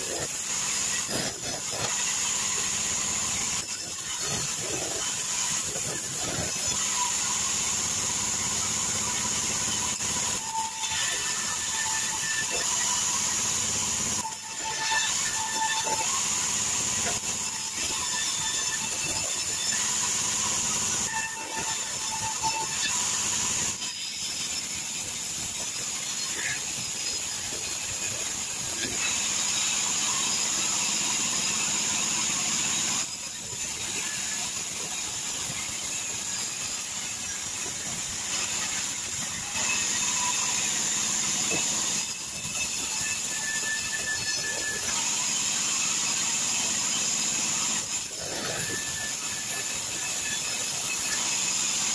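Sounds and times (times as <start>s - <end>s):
band saw cutting log: 0.0s - 51.9s.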